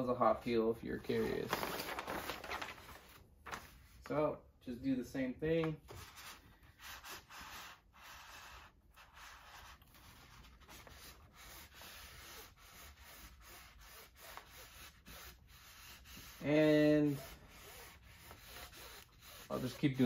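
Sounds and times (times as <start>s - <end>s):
papery rubbing strokes: 0.9s - 4.0s, 5.9s - 20.0s.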